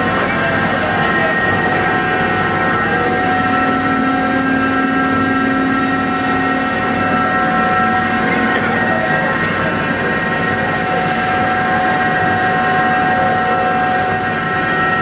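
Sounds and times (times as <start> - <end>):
low hum: 0.0 - 12.1
machine drone with whining tones: 0.0 - 15.0.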